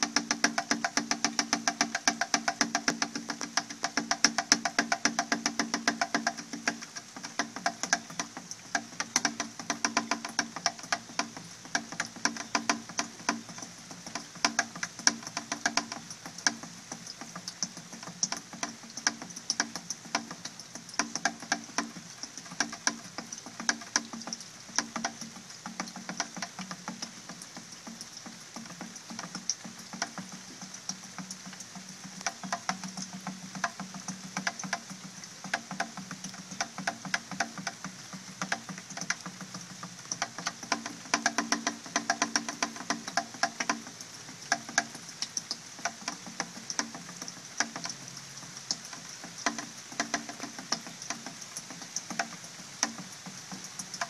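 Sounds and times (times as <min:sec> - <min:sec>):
rain plinking on plastic: 0:00.0 - 0:54.0.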